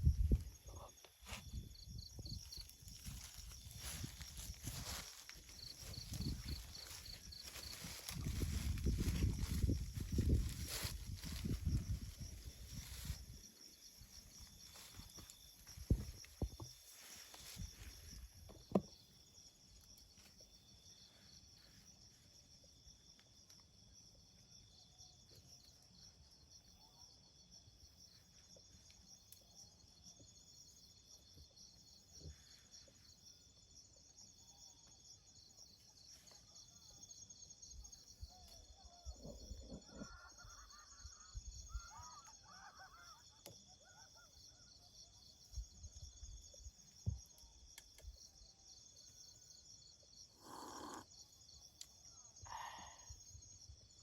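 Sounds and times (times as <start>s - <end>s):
forest insects trilling: 0.0s - 54.0s.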